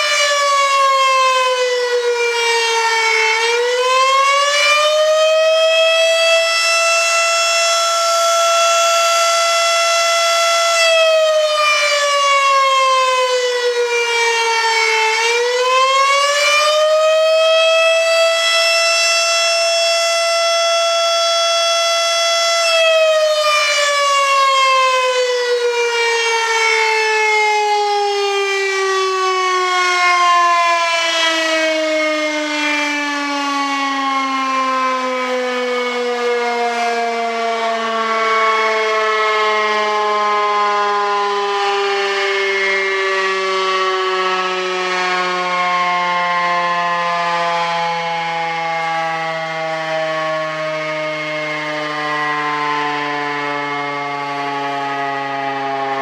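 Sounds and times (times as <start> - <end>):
warning siren winding down: 0.0 - 56.0.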